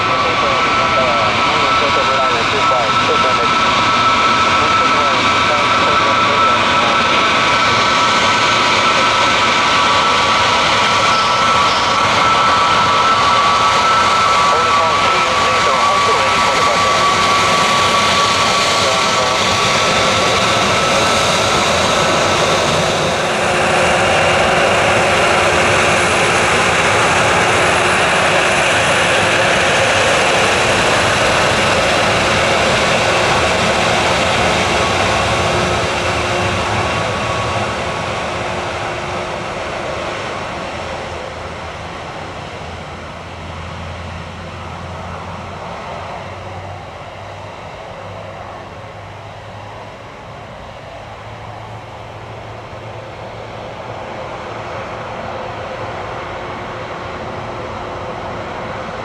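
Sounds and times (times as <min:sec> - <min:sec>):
jet engine whine: 0:00.0 - 0:59.0
jet engines roaring: 0:00.0 - 0:59.0.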